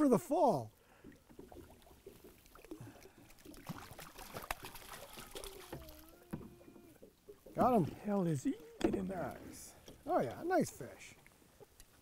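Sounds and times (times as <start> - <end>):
water splashing and dribbling: 0.0 - 12.0.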